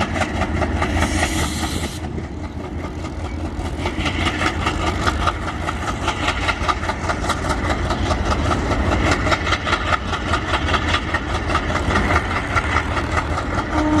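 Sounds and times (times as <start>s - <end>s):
diesel locomotive engine pulsing: 0.0s - 14.0s.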